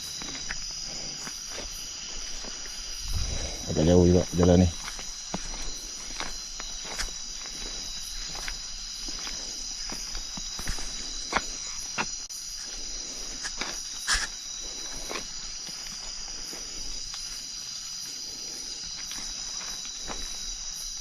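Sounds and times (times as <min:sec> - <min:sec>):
crickets and insects chorus: 0:00.0 - 0:21.0
footsteps crunching on path: 0:00.0 - 0:21.0.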